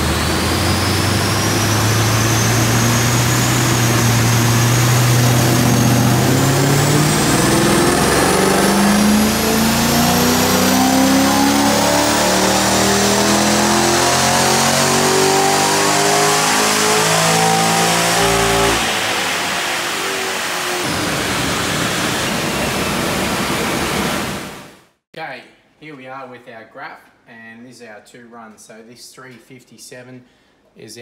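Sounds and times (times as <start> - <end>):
engine revving at full throttle: 0.0 - 24.8.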